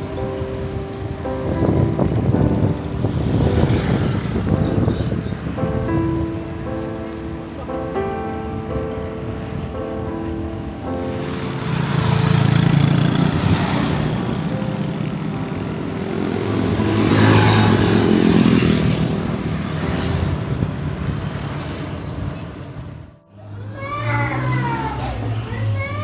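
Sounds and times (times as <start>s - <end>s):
vehicles passing close by: 0.0s - 26.0s.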